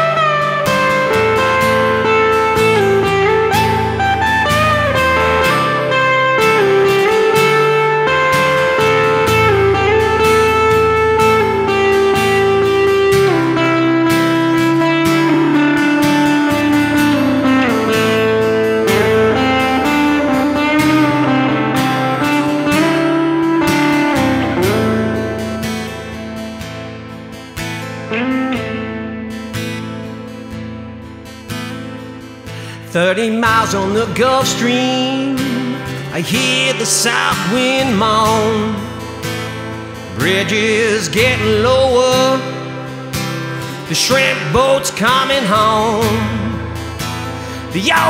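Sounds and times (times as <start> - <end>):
country blues band playing: 0.0 - 48.0
lead guitar bending notes: 0.0 - 48.0.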